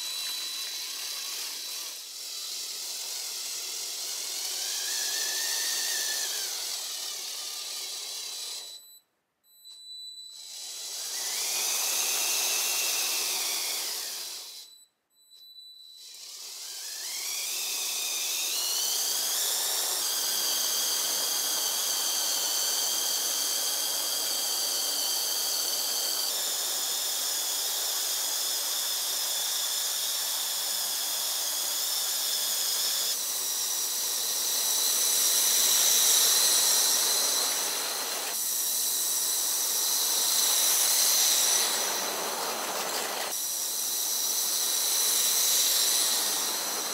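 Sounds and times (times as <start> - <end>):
electric motors whining: 0.0 - 8.9, 9.7 - 14.8, 15.9 - 46.9.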